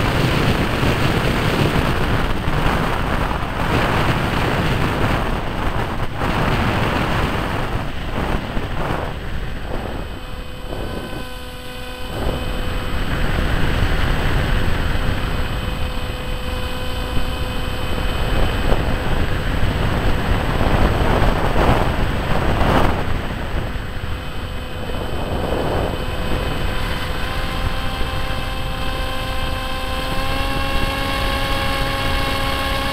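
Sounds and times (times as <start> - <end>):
electric motor and propeller whine: 0.0 - 32.9
rushing wind: 0.0 - 32.9.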